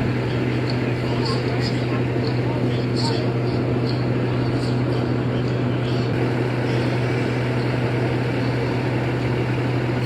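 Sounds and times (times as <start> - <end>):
engine running with low drone: 0.0 - 10.0.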